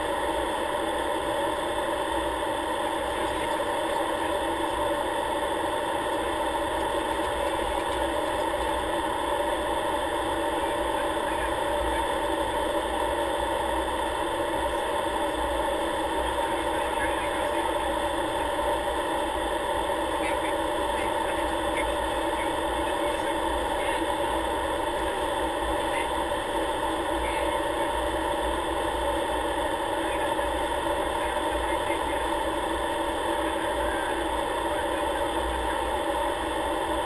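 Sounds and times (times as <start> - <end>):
aircraft engine running: 0.0 - 37.0.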